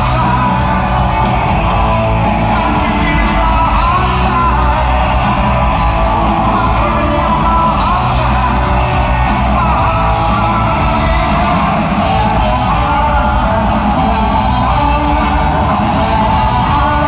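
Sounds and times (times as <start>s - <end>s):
electric guitar: 0.0s - 17.0s
live rock band playing: 0.0s - 17.0s
man singing: 0.0s - 17.0s.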